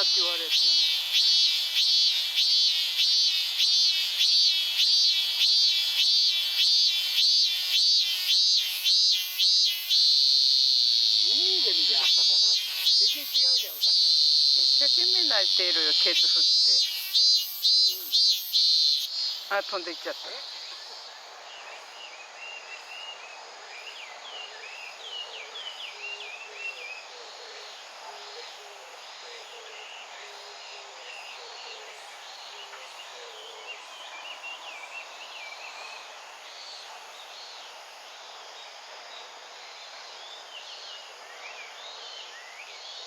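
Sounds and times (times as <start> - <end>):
small birds chirping: 0.0 - 10.1, 10.8 - 37.6
steady outdoor hiss: 0.0 - 43.0.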